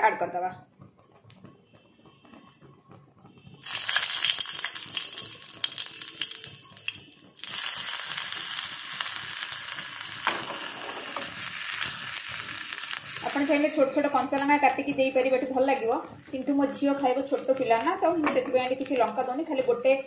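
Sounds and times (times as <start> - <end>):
sharp crackle: 0.8 - 19.7
hot oil sizzling: 3.2 - 20.0.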